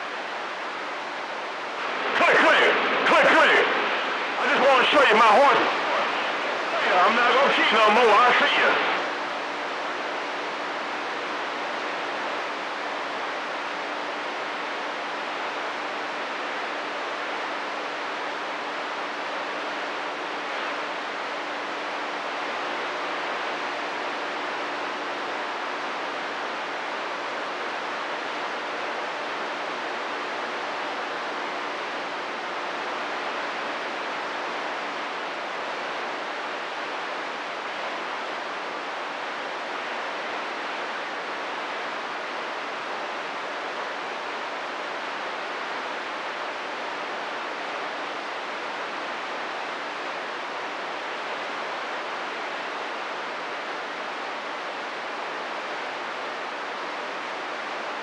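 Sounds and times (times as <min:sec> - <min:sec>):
faint steady hum: 0:00.0 - 0:58.0
radio static hiss: 0:00.0 - 0:58.0.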